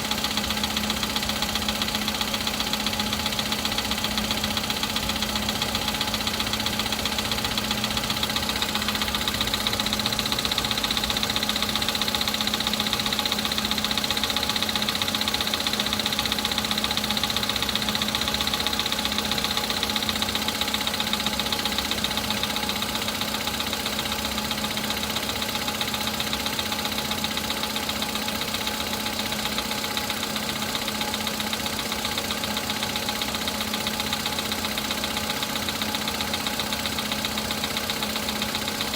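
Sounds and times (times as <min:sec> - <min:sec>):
car engine idling with rapid knock: 0:00.0 - 0:38.9.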